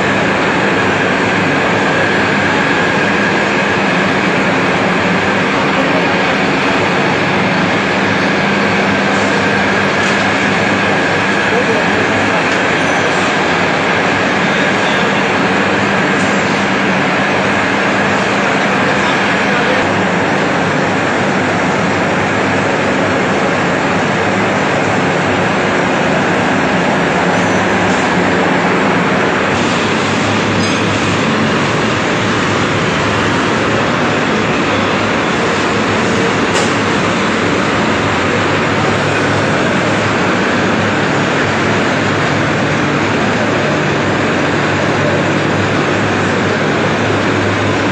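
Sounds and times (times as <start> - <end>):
factory machinery humming: 0.0 - 47.9.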